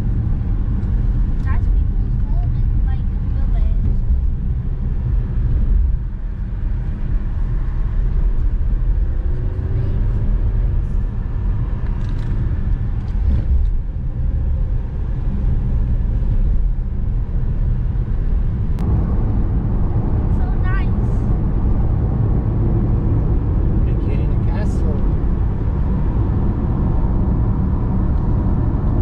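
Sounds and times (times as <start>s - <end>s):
car driving at low speed: 0.0s - 29.0s.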